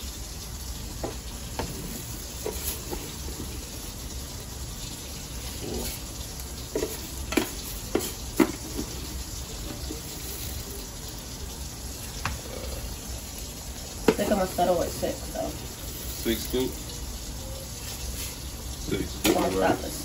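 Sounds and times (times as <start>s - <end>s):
pot of broth boiling: 0.0s - 20.0s.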